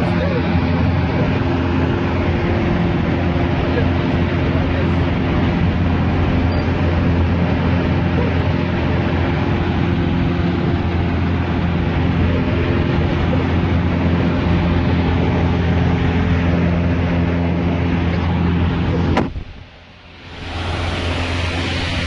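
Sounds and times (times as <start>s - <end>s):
aircraft engine and propeller: 0.0s - 22.0s
rush of air noise: 0.7s - 22.0s.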